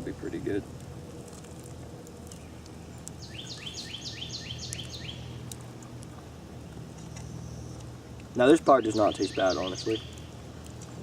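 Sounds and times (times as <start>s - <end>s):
low outdoor rumble: 0.0s - 11.0s
songbird singing: 0.0s - 11.0s.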